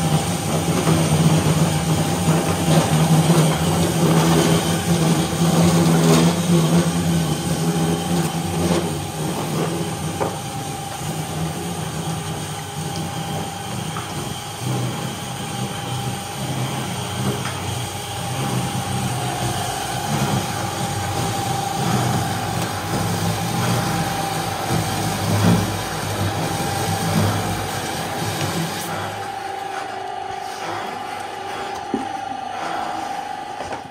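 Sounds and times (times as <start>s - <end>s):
steady whine: 0.0s - 33.9s
veneer peeling machine running: 0.0s - 33.9s.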